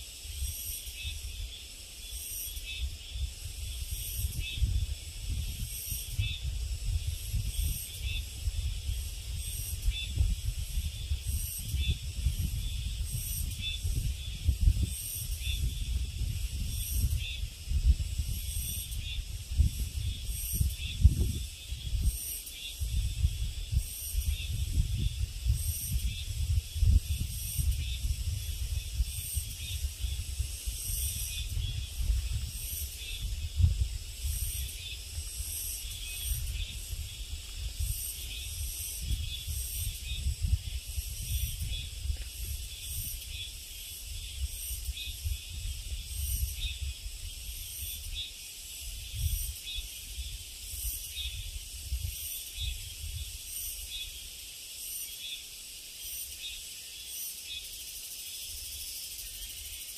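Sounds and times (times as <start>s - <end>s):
insects calling in pulses: 0.0s - 59.9s.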